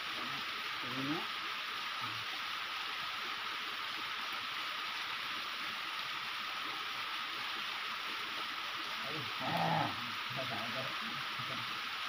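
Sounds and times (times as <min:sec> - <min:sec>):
waterfall splashing onto rocks: 0:00.0 - 0:12.0.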